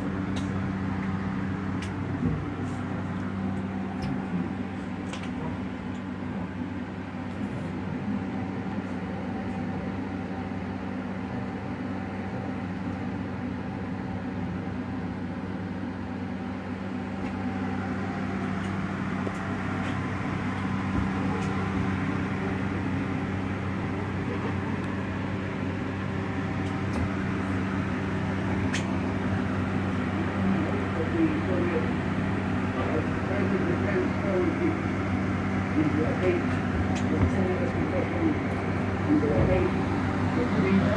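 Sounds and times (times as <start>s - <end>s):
low mechanical hum: 0.0s - 40.9s.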